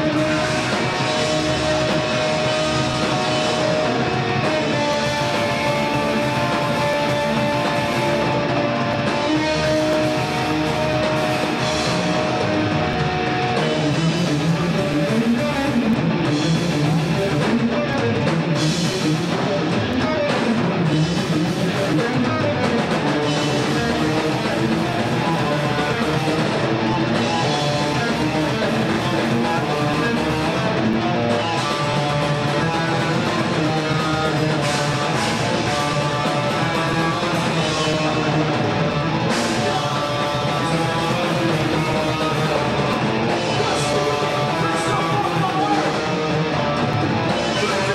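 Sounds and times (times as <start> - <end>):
metal band playing live: 0.0 - 47.9.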